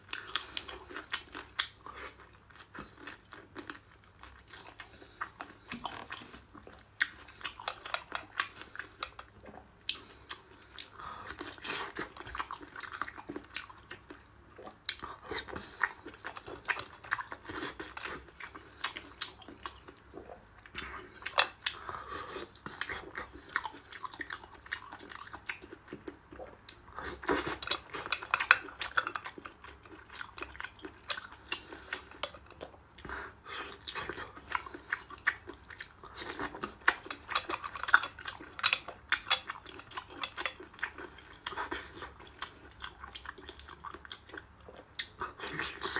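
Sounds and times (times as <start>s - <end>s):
chewing and biting shellfish: 0.0s - 45.9s.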